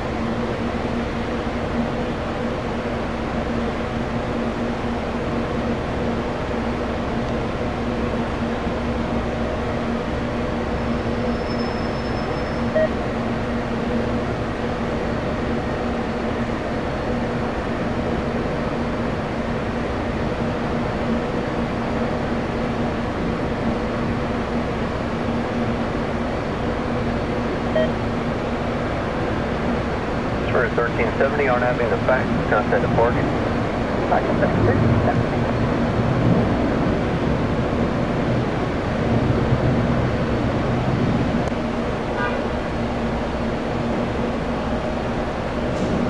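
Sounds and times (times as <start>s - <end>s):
machine drone with low hum: 0.0s - 46.0s.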